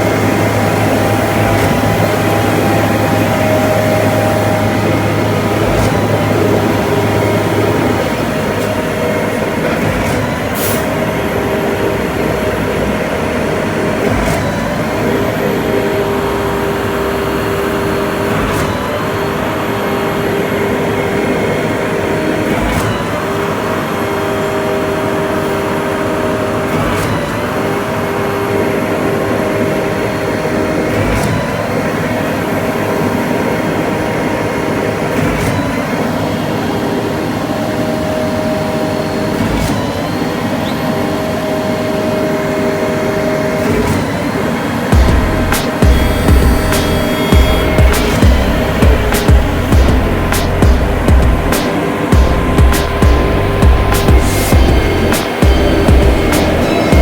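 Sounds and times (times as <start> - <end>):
diesel pump engine droning: 0.0 - 57.0.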